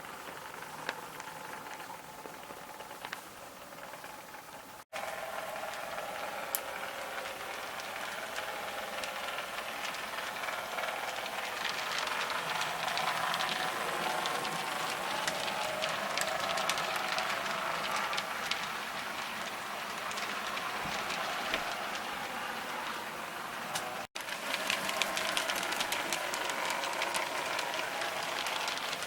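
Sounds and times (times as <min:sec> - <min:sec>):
model train motor whirring: 0:00.0 - 0:29.0
wheels clicking over rails: 0:00.0 - 0:29.0.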